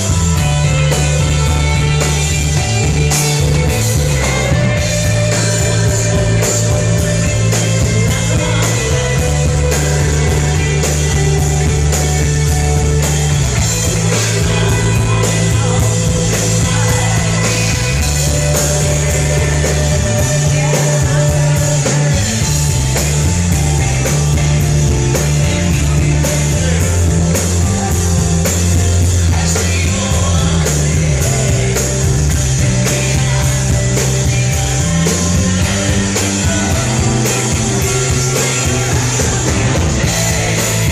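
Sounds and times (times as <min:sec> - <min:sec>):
bass notes: 0:00.0 - 0:40.9
drum kit beat: 0:00.0 - 0:40.9
electric guitar: 0:00.0 - 0:40.9.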